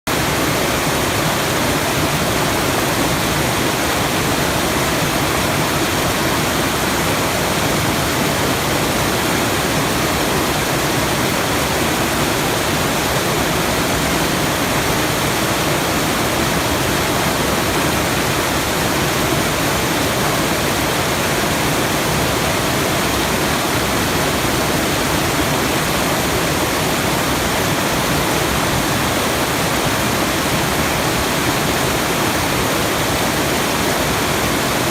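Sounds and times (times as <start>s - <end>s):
rush of falling water: 0.1s - 34.9s.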